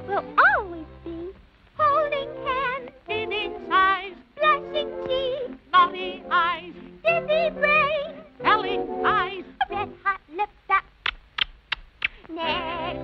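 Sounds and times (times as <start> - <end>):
high-pitched voices singing: 0.0 - 11.1, 12.0 - 13.0.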